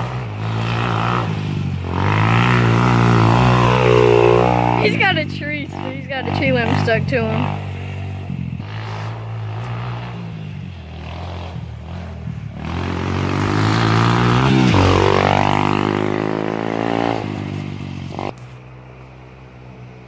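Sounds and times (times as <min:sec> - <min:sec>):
dirt bike riding past: 0:00.0 - 0:20.0
distant engine running: 0:00.0 - 0:20.0.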